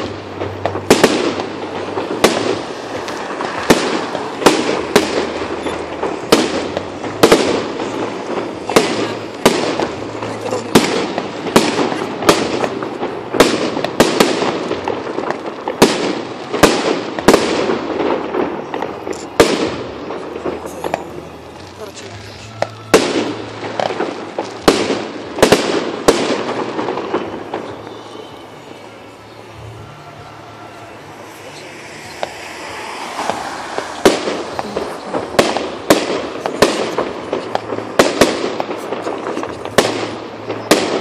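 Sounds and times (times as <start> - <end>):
background rumble and crackle: 0.0 - 28.6, 29.5 - 41.0
fireworks bursting with sharp bangs: 0.0 - 41.0.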